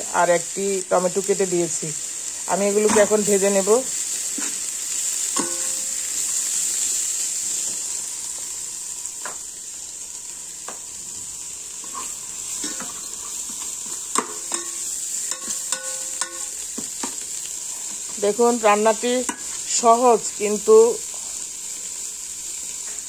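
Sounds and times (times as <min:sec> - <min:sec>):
vegetables sizzling in a pot: 0:00.0 - 0:23.0.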